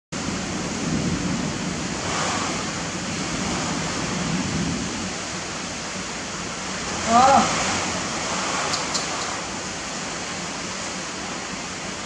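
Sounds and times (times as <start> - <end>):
rain falling: 0.2 - 12.0.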